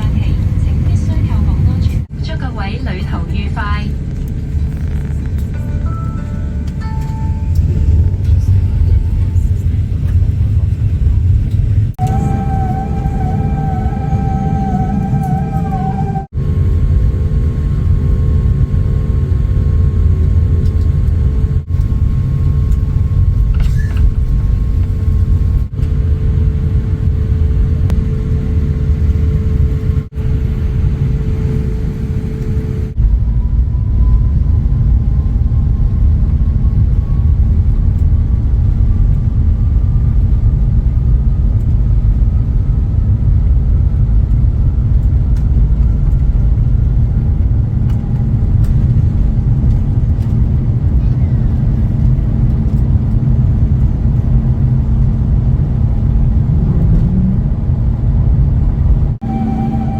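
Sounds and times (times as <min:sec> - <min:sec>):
faint whine: 0:00.0 - 0:57.4, 0:59.0 - 0:59.9
airliner cabin engine rumble: 0:00.0 - 0:59.9.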